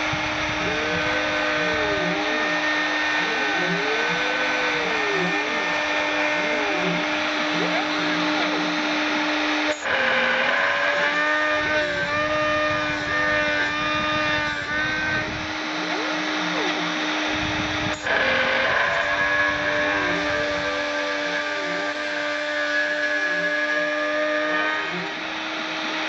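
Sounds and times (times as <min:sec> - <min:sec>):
milling machine spindle whine: 0:00.0 - 0:26.0
stepper motor tones: 0:00.0 - 0:26.0.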